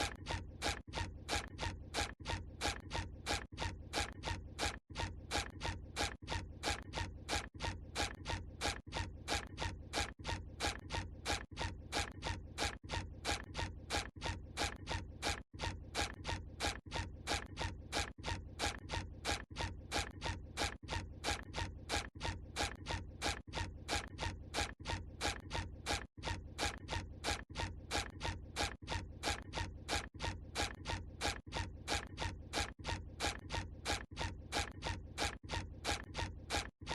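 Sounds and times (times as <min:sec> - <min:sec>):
squeaky cartoon footsteps: 0:00.0 - 0:36.9.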